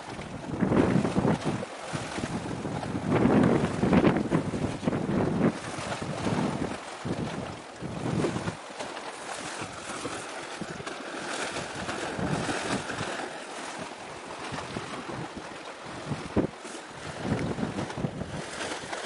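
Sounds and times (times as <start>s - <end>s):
sea and surf: 0.0s - 19.0s
wind buffeting microphone: 0.0s - 19.0s.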